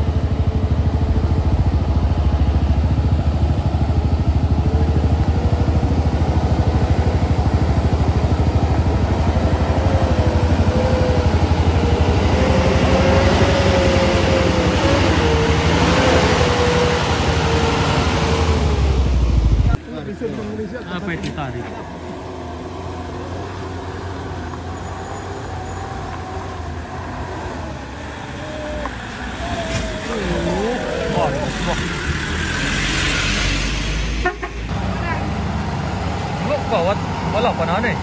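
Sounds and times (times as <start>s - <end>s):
diesel truck engine labouring: 0.0s - 38.0s.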